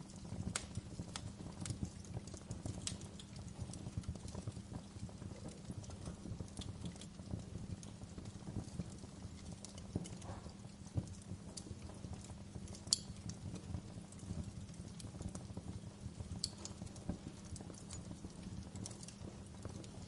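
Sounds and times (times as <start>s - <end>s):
low rumble of flames: 0.0s - 20.0s
wood fire crackling: 0.0s - 20.0s.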